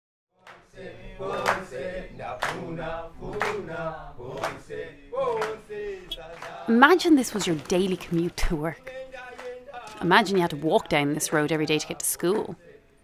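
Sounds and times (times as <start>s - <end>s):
choral singing with sharp beat: 0.4s - 13.0s.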